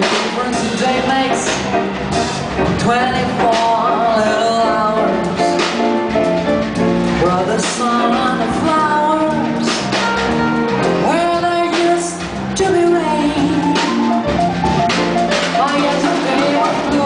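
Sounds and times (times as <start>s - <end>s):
drum kit: 0.0s - 17.0s
lead melody line: 0.5s - 17.0s
sustained backing chords: 0.6s - 17.0s.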